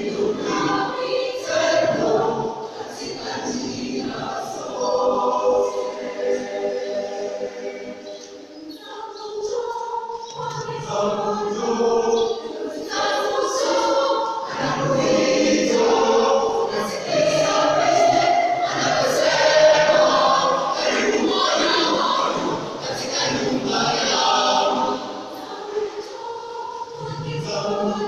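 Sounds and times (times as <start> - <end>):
youth choir singing: 0.0 - 28.0.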